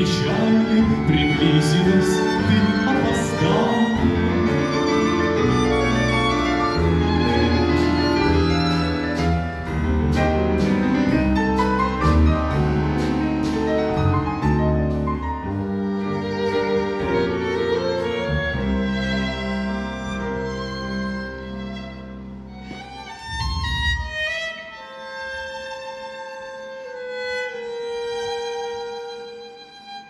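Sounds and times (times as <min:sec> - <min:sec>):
instrumental ensemble playing: 0:00.0 - 0:30.0.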